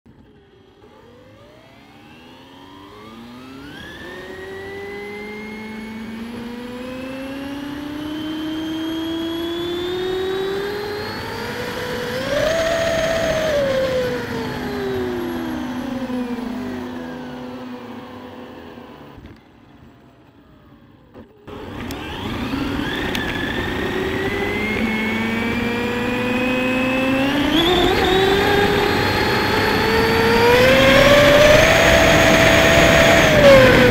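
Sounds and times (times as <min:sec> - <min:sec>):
electric motor whining: 0:00.8 - 0:19.5, 0:21.1 - 0:33.9.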